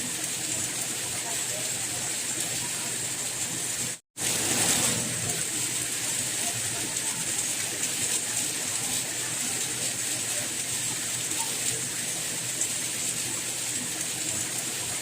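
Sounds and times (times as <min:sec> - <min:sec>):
faint water drips: 0:00.0 - 0:04.0, 0:04.7 - 0:15.0
steady rain: 0:00.0 - 0:15.0.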